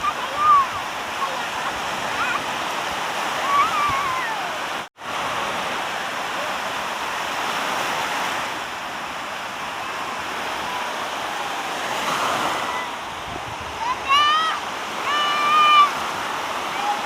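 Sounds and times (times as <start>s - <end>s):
sea water rushing: 0.0s - 17.0s.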